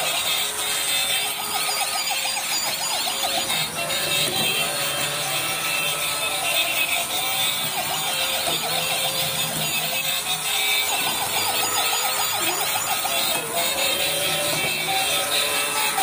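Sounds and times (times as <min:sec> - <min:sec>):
toy electronic siren warbles: 0:00.0 - 0:16.0
toy motor whir: 0:00.0 - 0:16.0.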